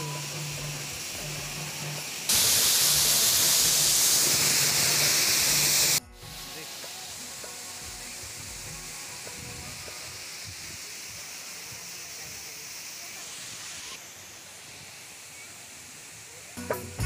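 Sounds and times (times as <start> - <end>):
waterfall rushing: 0.0 - 16.7
faint voices: 0.0 - 17.0.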